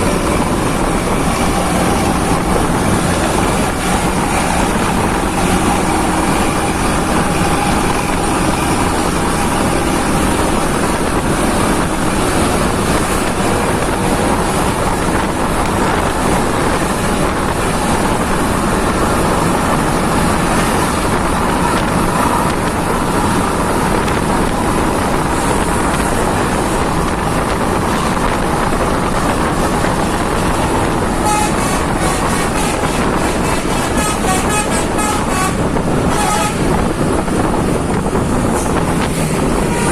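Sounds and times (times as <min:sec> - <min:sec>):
bus traffic noise: 0:00.0 - 0:39.9.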